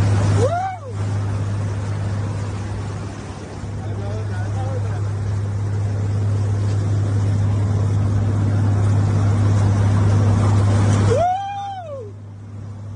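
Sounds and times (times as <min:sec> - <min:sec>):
motorboat engine hum: 0:00.0 - 0:12.9
water rushing along hull: 0:00.0 - 0:12.9.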